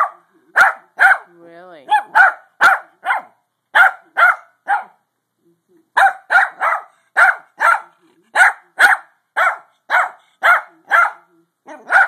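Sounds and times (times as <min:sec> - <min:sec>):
small dog barking: 0:00.0 - 0:01.3, 0:01.9 - 0:05.0, 0:06.0 - 0:12.0.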